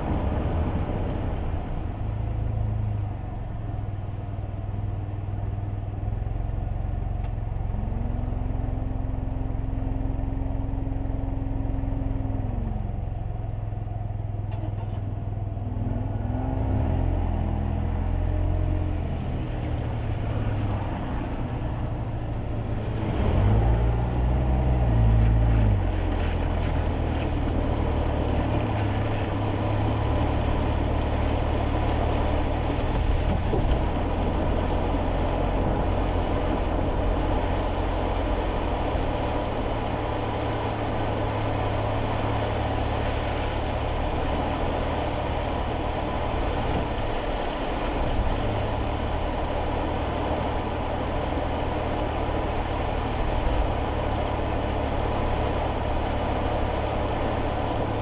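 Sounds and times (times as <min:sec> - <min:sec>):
car engine hum: 0:00.0 - 0:58.0.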